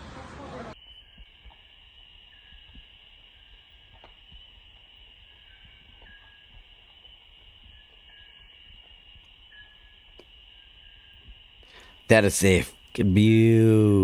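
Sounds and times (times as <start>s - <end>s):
high-pitched insect chorus: 0.7s - 14.0s.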